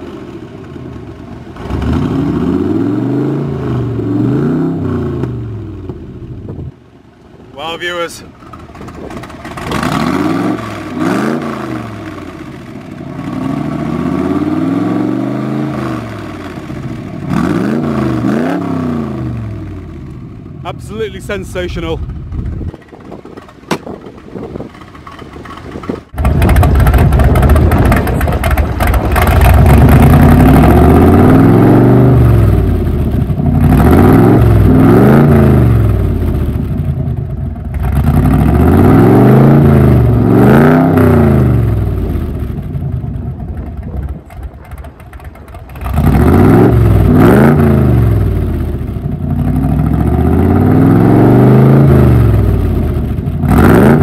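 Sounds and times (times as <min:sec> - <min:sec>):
car engine revving: 0:00.0 - 0:06.1, 0:07.6 - 0:21.1, 0:21.7 - 0:54.0.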